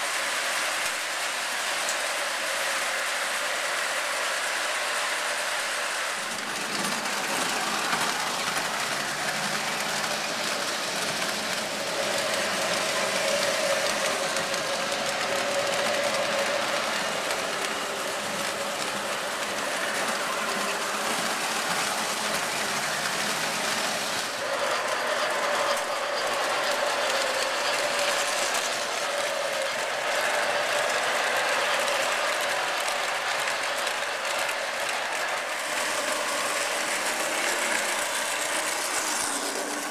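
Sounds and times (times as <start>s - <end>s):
model trains whirring and rattling: 0.0s - 39.9s.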